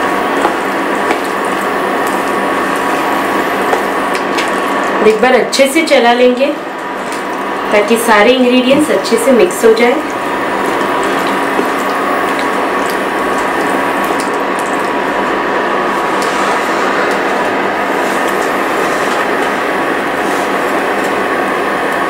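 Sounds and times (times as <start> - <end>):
cooktop electrical hum: 0.0 - 22.0.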